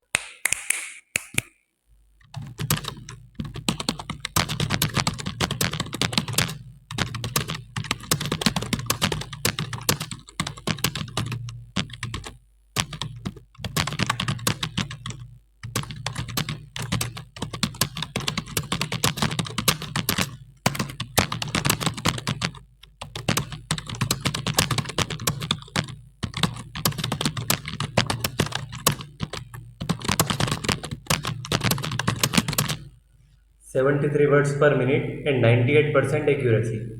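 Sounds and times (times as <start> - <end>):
fast typing on keyboard: 2.2 - 32.9.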